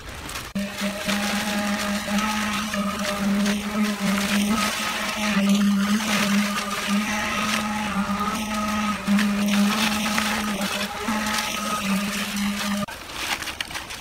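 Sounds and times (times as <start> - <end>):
machine motor humming: 0.5 - 13.0.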